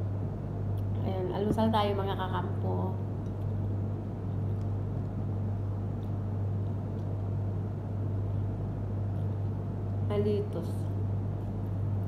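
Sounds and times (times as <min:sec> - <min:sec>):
machine hum with rumble: 0:00.0 - 0:12.0.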